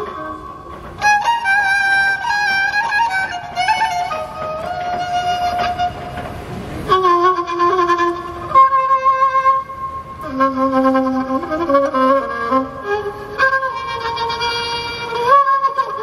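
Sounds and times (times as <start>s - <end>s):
spike fiddle slow bowed melody: 0.0s - 16.0s.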